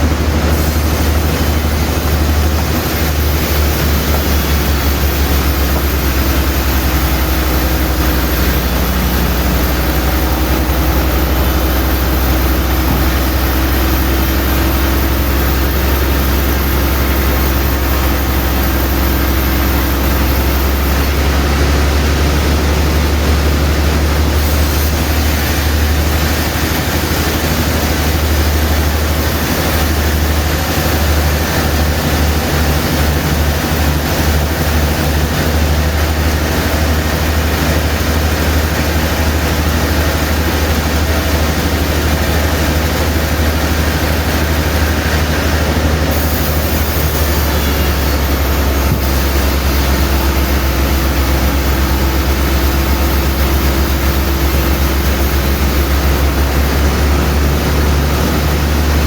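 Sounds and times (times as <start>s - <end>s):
noisy machinery whir: 0.0s - 59.0s
sawmill motor hum: 0.0s - 59.0s.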